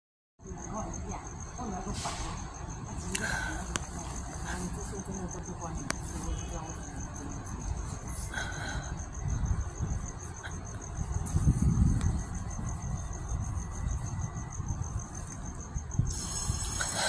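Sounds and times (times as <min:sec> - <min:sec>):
cricket chirping: 0:00.4 - 0:17.0.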